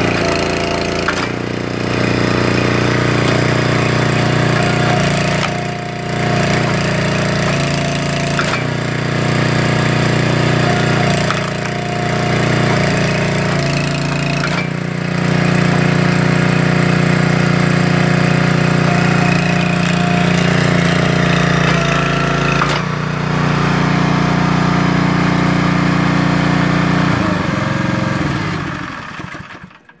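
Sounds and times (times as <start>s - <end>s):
small gas engine running: 0.0s - 30.0s.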